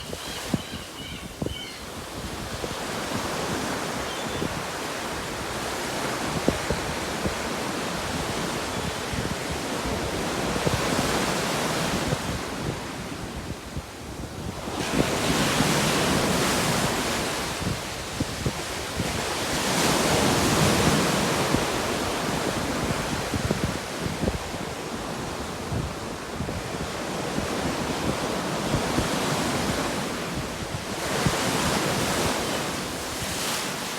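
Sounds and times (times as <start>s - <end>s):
wind on microphone: 0.0s - 33.9s.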